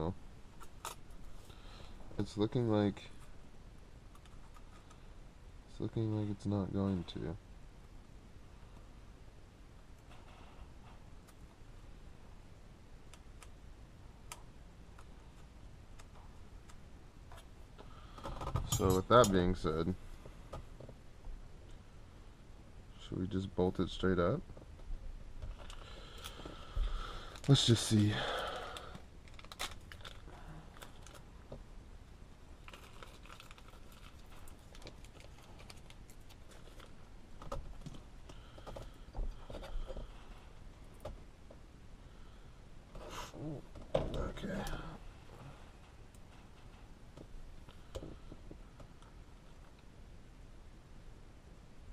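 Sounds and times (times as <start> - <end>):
low steady background hum: 0.0 - 51.9.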